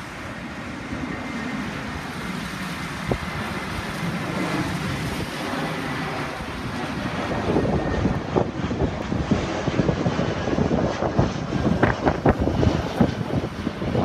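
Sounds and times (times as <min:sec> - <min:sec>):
jet engines rumbling: 0:00.0 - 0:14.0
wind gusting on microphone: 0:00.0 - 0:14.0.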